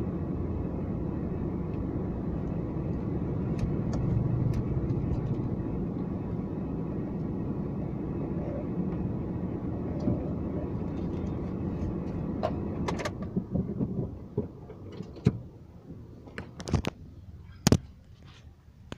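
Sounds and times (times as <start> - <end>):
car engine rumble: 0.0 - 18.9.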